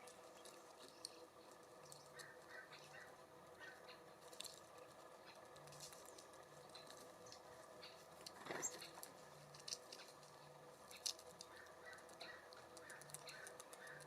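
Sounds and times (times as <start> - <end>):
birds pecking and scratching: 0.0 - 14.0
faint steady hum: 0.0 - 14.0.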